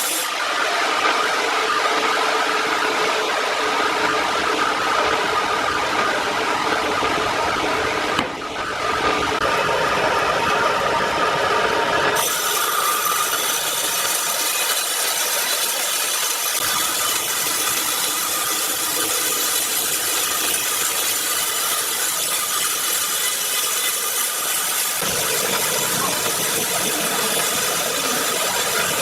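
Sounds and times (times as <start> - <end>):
power saw cutting timber: 0.0 - 29.0.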